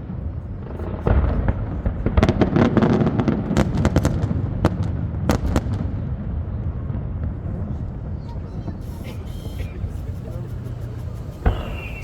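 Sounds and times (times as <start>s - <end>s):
continuous low rumble: 0.0s - 12.0s
fireworks bangs and crackling: 0.0s - 12.0s.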